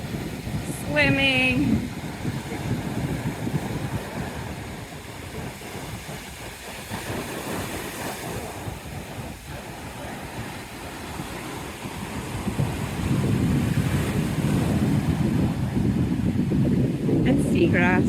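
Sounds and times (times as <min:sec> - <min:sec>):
surf breaking on shore: 0:00.0 - 0:18.0
wind buffeting microphone: 0:00.0 - 0:18.0.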